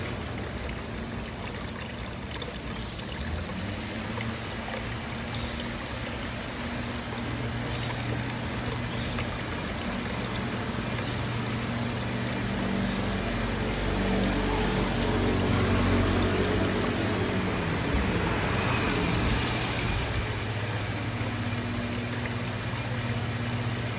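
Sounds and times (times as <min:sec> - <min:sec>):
fountain water trickling and splashing: 0:00.0 - 0:23.9.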